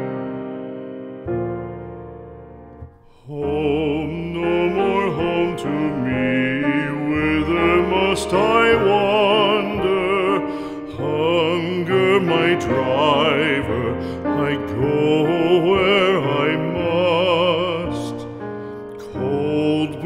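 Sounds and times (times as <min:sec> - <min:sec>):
piano: 0:00.0 - 0:20.0
person singing with vibrato: 0:03.0 - 0:20.0.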